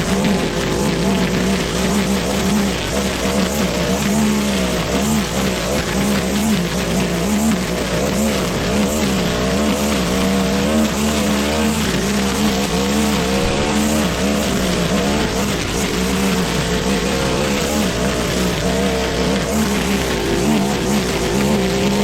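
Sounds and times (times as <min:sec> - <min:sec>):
lawn mower engine cutting grass: 0:00.0 - 0:22.0.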